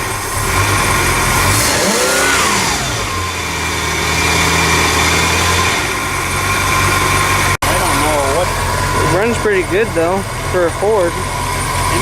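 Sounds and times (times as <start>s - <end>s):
boat engine revving: 0.0s - 12.0s.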